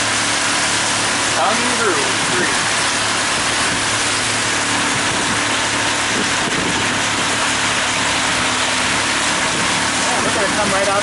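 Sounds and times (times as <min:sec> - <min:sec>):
boat motor running: 0:00.0 - 0:11.0
hiss of water and wind: 0:00.0 - 0:11.0.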